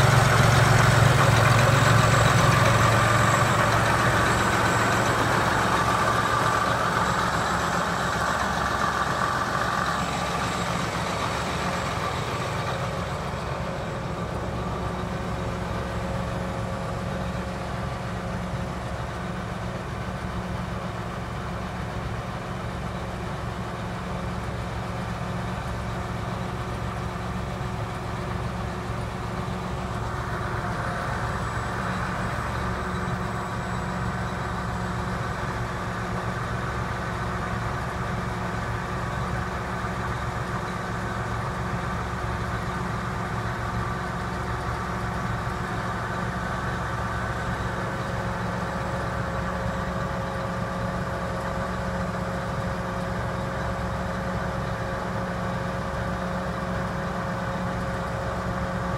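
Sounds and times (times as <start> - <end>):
diesel tractor idling: 0.0 - 58.9.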